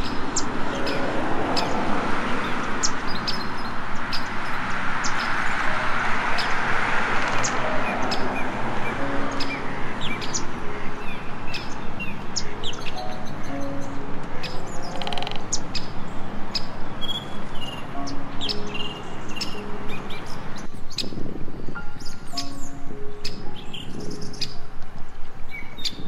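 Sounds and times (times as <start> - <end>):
small birds chirping: 0.0 - 6.7, 7.3 - 26.0
steady rushing background: 0.0 - 25.5.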